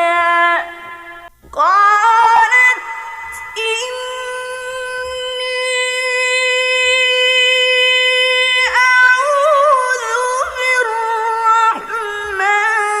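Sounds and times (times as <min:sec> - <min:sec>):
high singing voice: 0:00.0 - 0:13.0.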